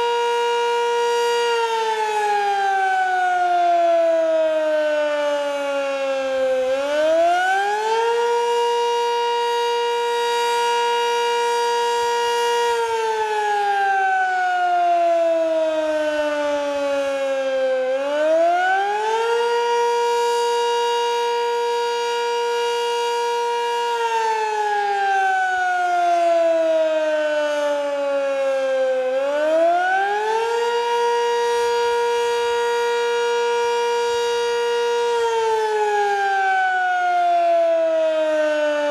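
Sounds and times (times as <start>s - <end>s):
two-tone warning siren wailing: 0.0s - 38.9s.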